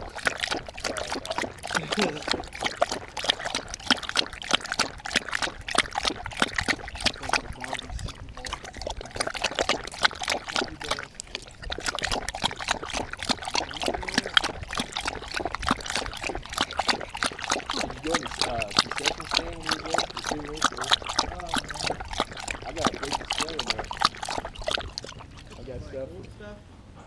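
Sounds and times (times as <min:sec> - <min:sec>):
puppy lapping water: 0:00.0 - 0:26.5.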